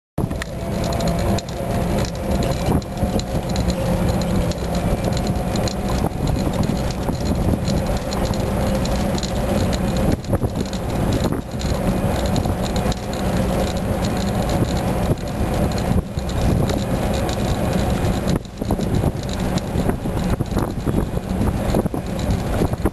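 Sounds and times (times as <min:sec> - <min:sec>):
vehicle rattling: 0:00.2 - 0:22.9
vehicle rumbling on road: 0:00.2 - 0:22.9.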